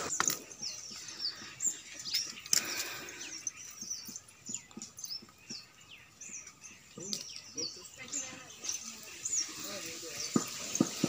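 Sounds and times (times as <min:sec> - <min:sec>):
birds chirping: 0:00.0 - 0:11.0
footsteps on stone steps: 0:00.0 - 0:11.0.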